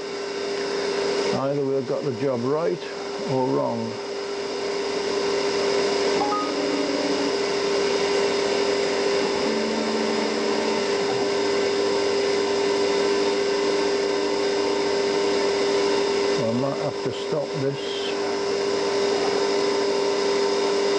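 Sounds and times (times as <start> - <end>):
milling machine spindle whine: 0.0 - 20.9.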